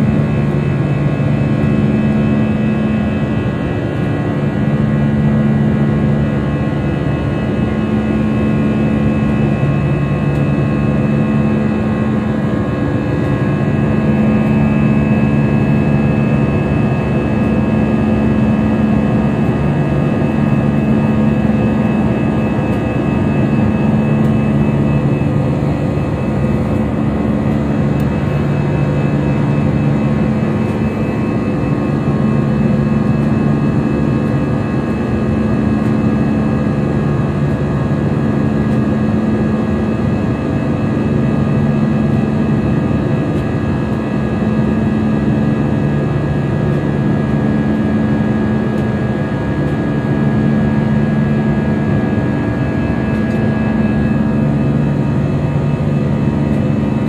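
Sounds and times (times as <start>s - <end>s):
jet engines and airflow rush: 0.0s - 57.0s.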